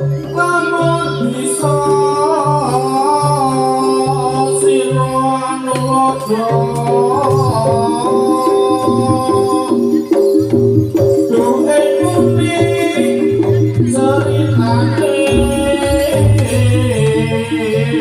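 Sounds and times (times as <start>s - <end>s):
wavering sung or reed melody: 0.0s - 18.0s.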